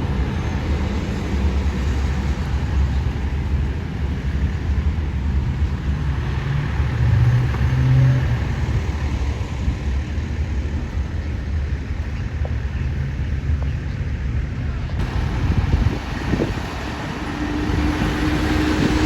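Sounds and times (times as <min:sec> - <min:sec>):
heavy vehicle engine rumbling: 0:00.0 - 0:19.0.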